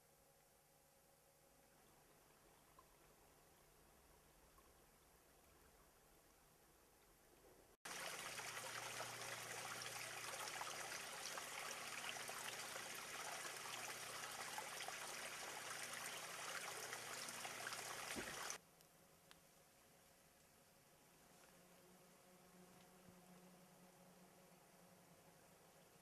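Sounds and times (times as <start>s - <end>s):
water trickling in stream: 1.2s - 18.6s, 20.3s - 26.0s.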